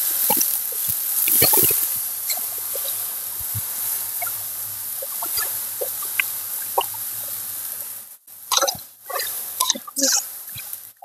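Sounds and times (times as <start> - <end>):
hot water hissing in a wok: 0.0 - 11.0.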